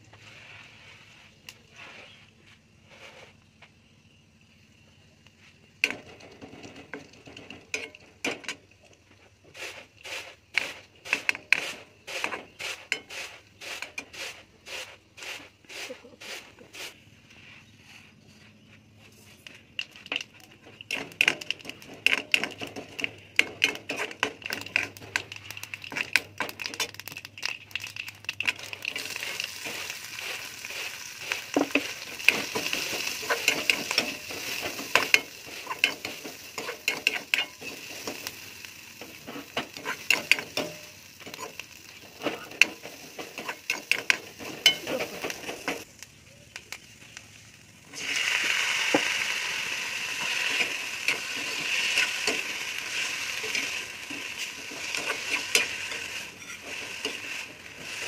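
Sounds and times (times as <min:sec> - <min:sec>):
seeds popping in hot oil: 0:03.8 - 0:16.7, 0:19.2 - 0:58.0
onions sizzling in oil: 0:04.0 - 0:16.9, 0:19.4 - 0:58.0
ladle stirring and scraping: 0:05.8 - 0:17.8, 0:19.1 - 0:45.9, 0:50.1 - 0:58.0.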